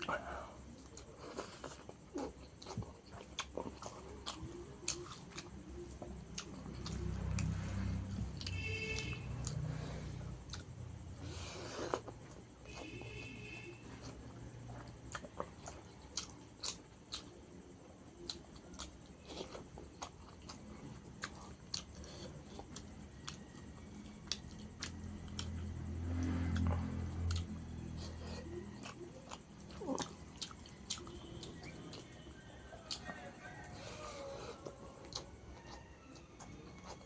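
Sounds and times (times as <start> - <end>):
wet chewing: 0.0 - 37.0.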